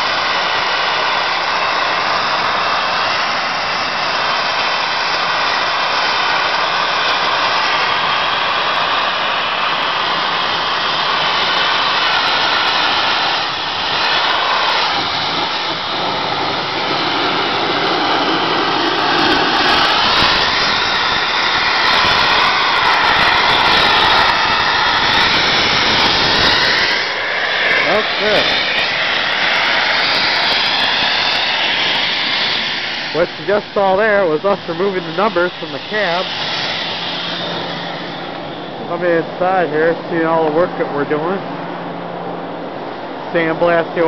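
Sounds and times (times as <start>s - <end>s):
sandblaster hissing: 0.0s - 41.4s, 43.3s - 44.0s.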